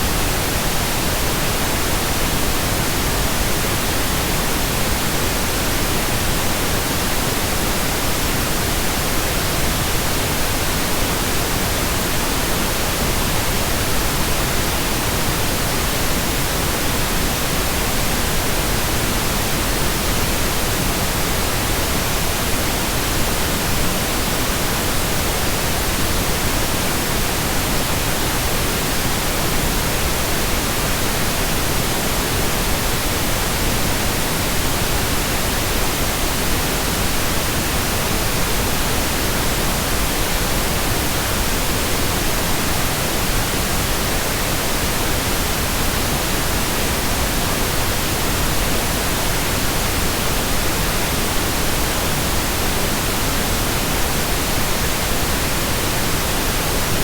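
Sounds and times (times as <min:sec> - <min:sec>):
pink noise hiss: 0:00.0 - 0:57.0.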